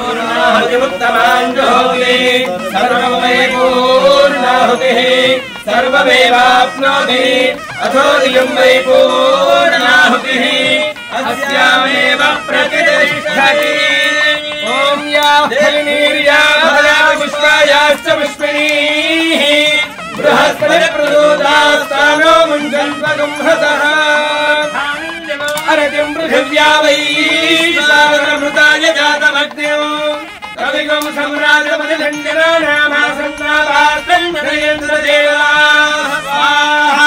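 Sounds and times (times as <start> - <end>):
men chanting in unison: 0.0 - 37.0.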